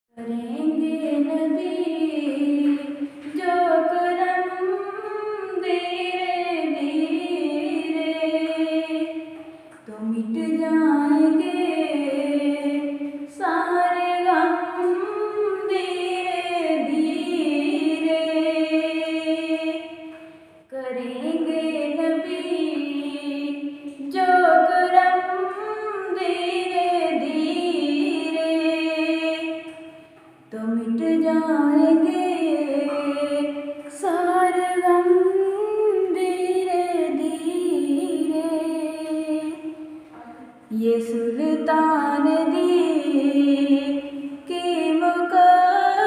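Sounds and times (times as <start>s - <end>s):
woman singing unaccompanied: 0.1s - 20.1s, 20.7s - 46.0s.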